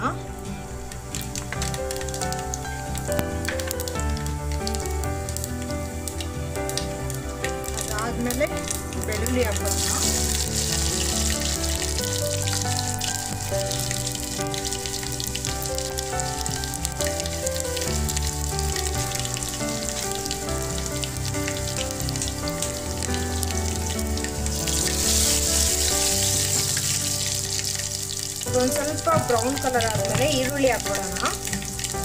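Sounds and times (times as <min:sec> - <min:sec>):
background music with bass: 0:00.0 - 0:32.0
spices sizzling in hot oil: 0:00.0 - 0:32.0.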